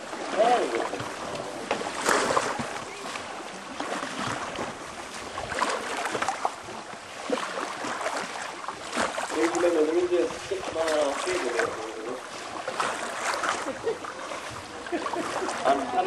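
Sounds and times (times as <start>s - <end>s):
paddle splashes: 0.0s - 16.0s
river water rushing: 0.0s - 16.0s.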